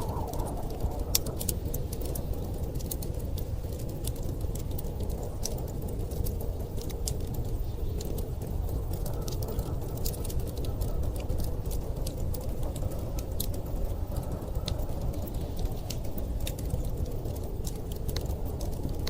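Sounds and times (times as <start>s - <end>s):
blizzard wind rumbling: 0.0s - 19.0s
wood fire crackling: 0.0s - 19.0s.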